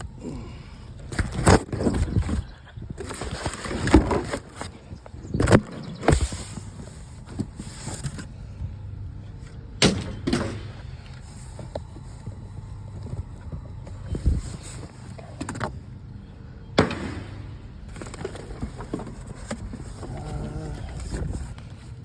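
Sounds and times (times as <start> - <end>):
low engine rumble: 0.0 - 22.0.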